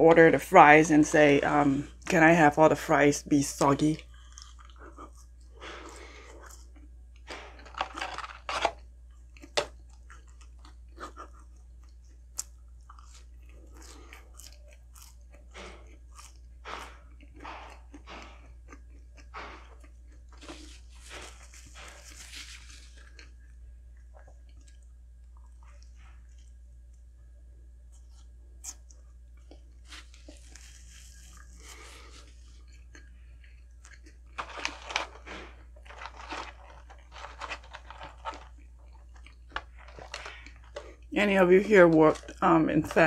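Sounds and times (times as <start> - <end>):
person chewing food: 3.9 - 43.0.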